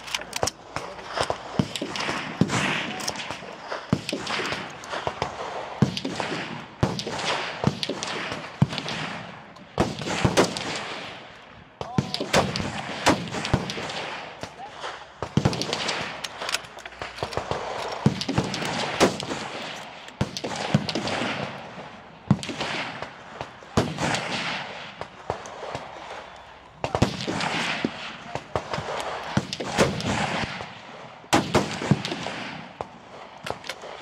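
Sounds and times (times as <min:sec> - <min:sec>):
rifle gunshots: 0:00.0 - 0:11.2, 0:11.9 - 0:34.0.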